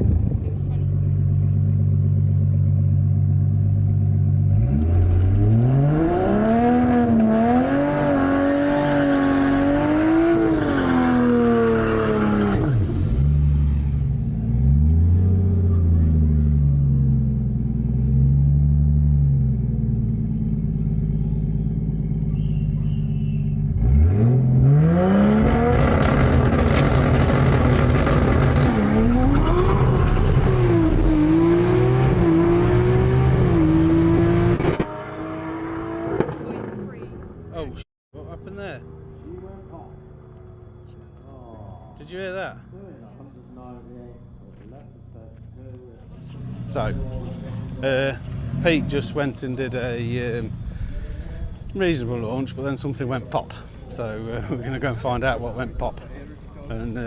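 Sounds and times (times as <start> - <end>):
racing car engines revving: 0.0 - 57.0.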